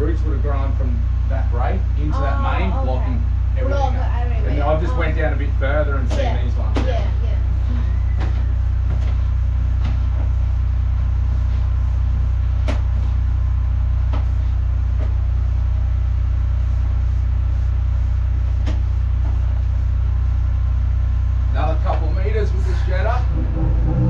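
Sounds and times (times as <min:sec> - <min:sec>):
drain jetter engine droning: 0:00.0 - 0:24.0.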